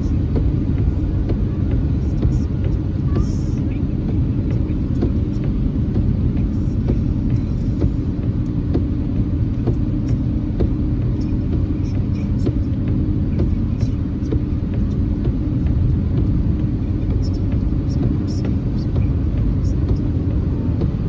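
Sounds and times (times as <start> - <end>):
car cabin rumble: 0.0 - 21.0
rain ticking on car: 0.0 - 21.0.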